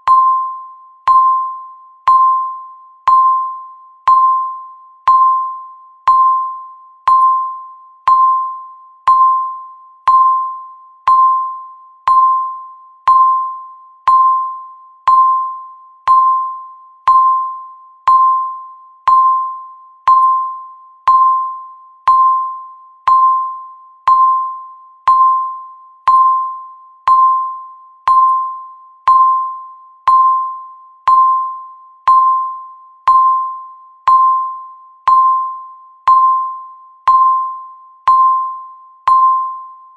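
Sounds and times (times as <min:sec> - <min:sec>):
electronic timer chime: 0:00.0 - 0:39.9.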